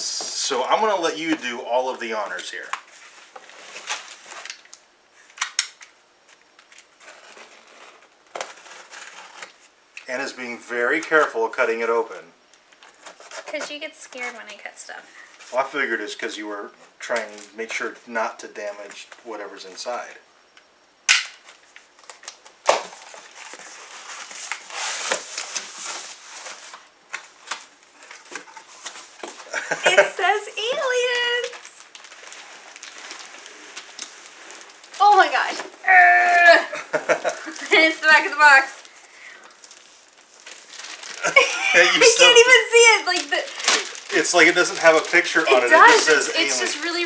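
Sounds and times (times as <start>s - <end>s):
packaging rustling and crinkling: 0.4s - 10.0s, 12.4s - 15.6s, 21.4s - 47.0s.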